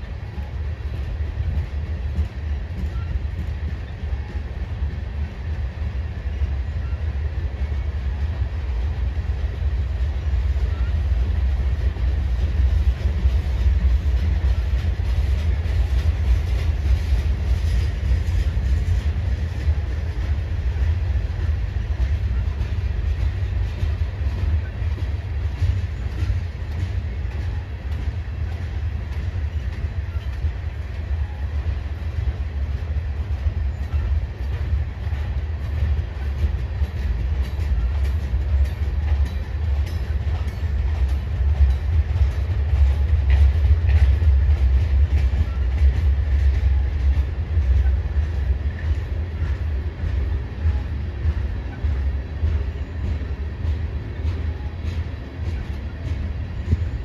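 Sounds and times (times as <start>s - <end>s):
freight train wheels rumbling on rails: 0.0s - 57.0s
wheels clicking over rail joints: 10.5s - 57.0s.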